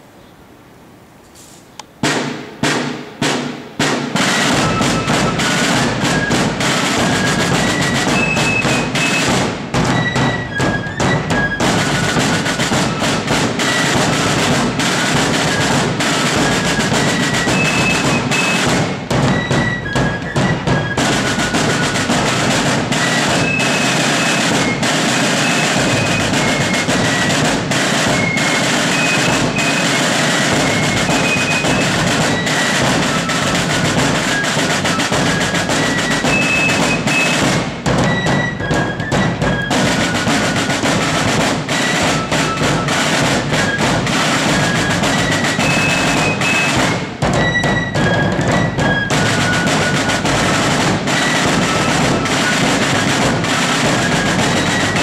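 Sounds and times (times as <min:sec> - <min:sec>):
snare drums: 0:01.4 - 0:55.0.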